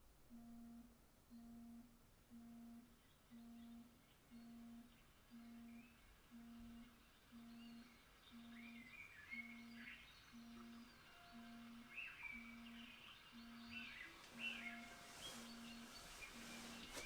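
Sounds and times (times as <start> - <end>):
pulsing low tone: 0.3 - 16.8
faint bird-like chirps: 0.3 - 17.0.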